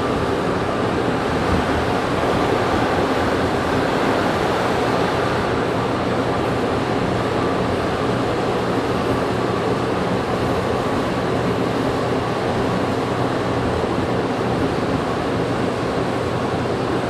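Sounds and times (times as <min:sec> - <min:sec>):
metro car rumble and hiss: 0:00.0 - 0:17.0.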